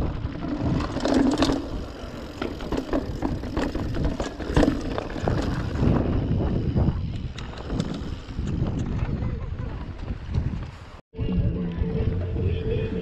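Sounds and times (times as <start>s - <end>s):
wind rumble on microphone: 0.0s - 2.0s, 2.6s - 13.0s
bike rattling over bumps: 0.0s - 11.0s.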